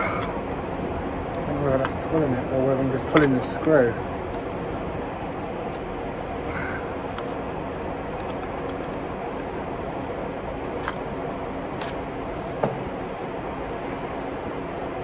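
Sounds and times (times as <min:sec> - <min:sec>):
workshop mechanical hum: 0:00.0 - 0:15.0.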